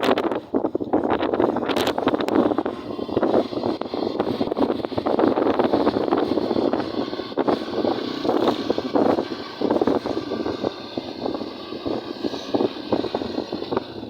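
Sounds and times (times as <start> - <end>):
road noise from moving vehicle: 0.0 - 14.0
wind buffeting microphone: 0.0 - 14.0.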